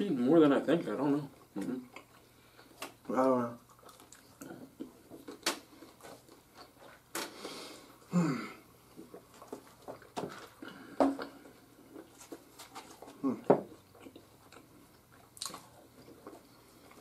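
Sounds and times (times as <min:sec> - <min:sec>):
chewing and crunching food: 0:00.8 - 0:07.2, 0:08.8 - 0:17.0.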